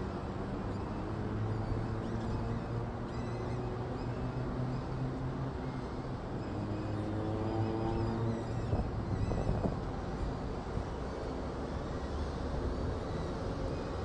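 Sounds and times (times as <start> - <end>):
low hum and rushing noise: 0.0 - 14.0.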